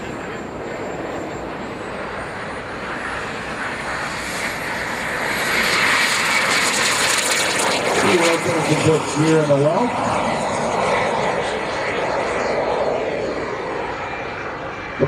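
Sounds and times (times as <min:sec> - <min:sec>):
high turbine whine: 0:00.0 - 0:15.0
model jet turbine roar: 0:00.0 - 0:15.0.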